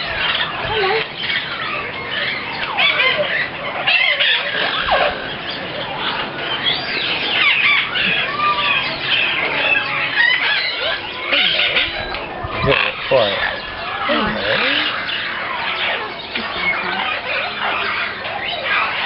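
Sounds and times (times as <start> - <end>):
parrots squawking and whistling: 0.0 - 19.0.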